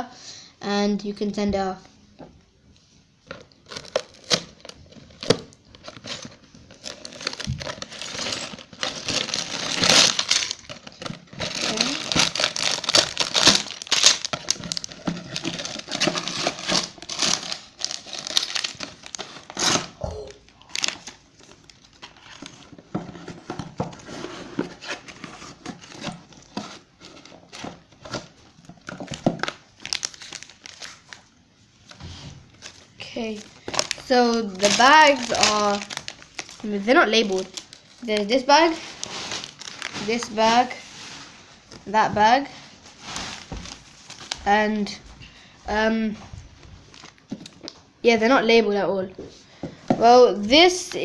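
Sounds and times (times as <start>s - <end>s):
plastic bags crinkling: 3.2s - 41.8s, 42.7s - 45.1s, 46.8s - 47.8s.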